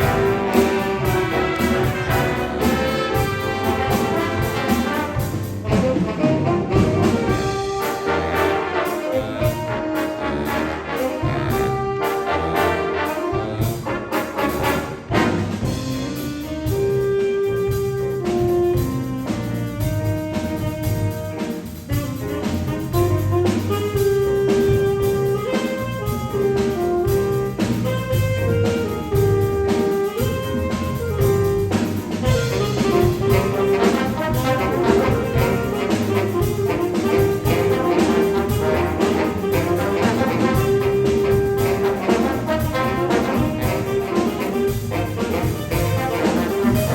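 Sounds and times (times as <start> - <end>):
drums keeping a beat: 0.0 - 46.9
horn section playing: 0.0 - 46.9
walking bass notes: 0.0 - 46.9.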